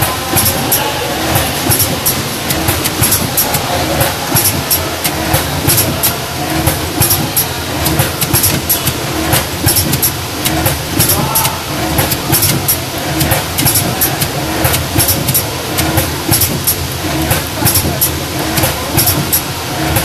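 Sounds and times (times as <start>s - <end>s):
machinery clattering: 0.0s - 20.0s.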